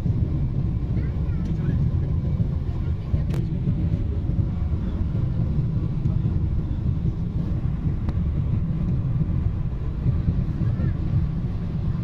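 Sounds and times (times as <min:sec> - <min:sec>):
airliner engines rumbling in cabin: 0:00.0 - 0:12.0.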